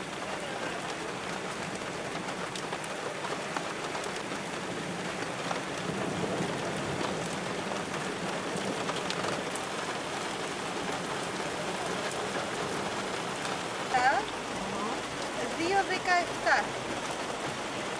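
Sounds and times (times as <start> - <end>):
flood water rushing down street: 0.0 - 17.9
steady rain falling: 0.0 - 17.9.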